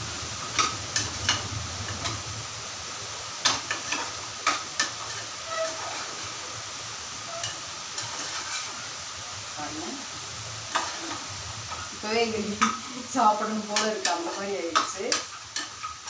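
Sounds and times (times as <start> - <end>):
sizzling on gas flame: 0.0 - 16.0.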